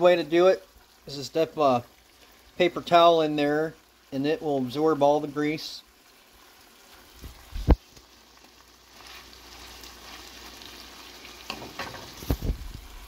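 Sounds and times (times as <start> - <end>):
meat and vegetables sizzling in skillet: 0.0 - 13.0.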